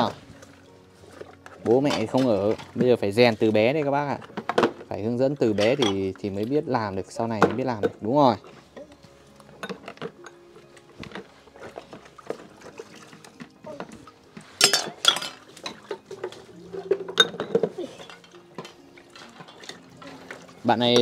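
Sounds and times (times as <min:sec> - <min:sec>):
bowls and spoons clinking in water: 0:00.0 - 0:21.0.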